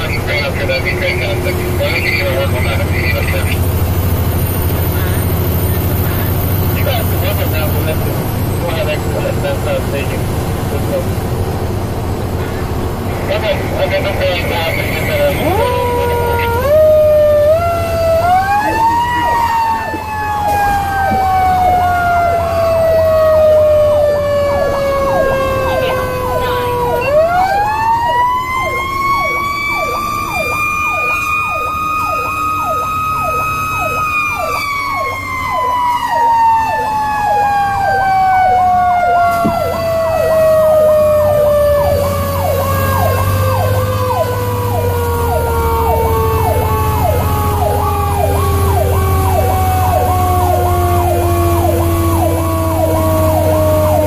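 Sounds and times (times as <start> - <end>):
siren yelp: 0.0 - 10.2, 13.1 - 54.0
siren wailing: 0.0 - 11.1, 12.4 - 54.0
low engine hum: 0.0 - 54.0.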